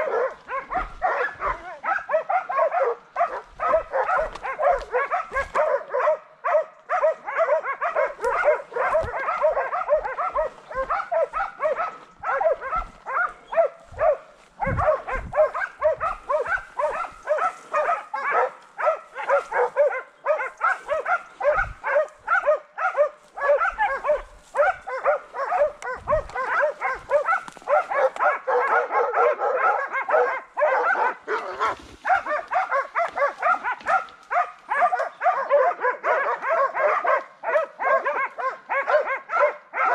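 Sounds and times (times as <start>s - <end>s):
dogs barking rapidly: 0.0s - 39.9s.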